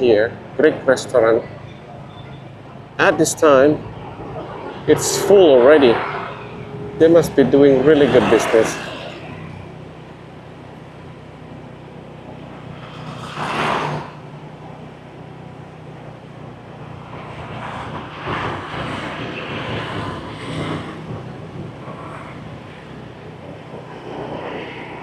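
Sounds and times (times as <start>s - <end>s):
traffic passing: 0.0s - 25.0s.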